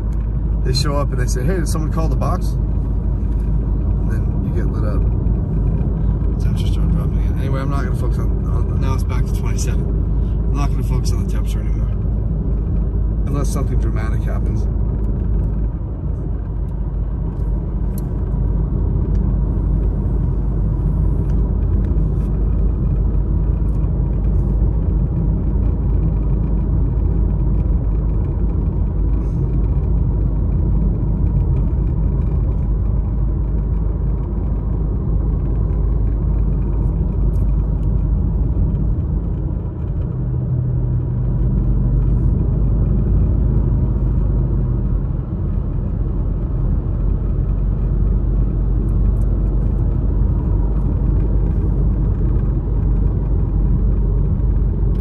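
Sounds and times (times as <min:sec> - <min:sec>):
car road and engine rumble: 0:00.0 - 0:55.0
deep hum: 0:00.0 - 0:55.0.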